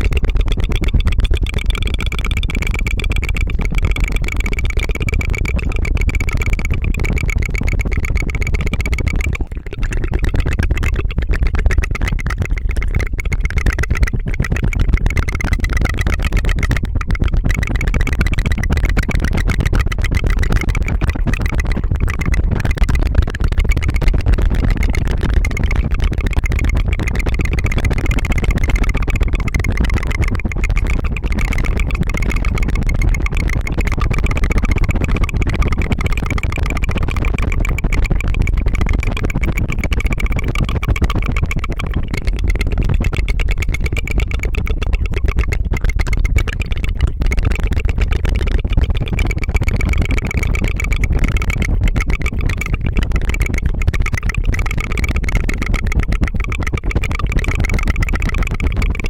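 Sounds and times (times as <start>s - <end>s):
rolled tongue trill: 0.0s - 59.0s.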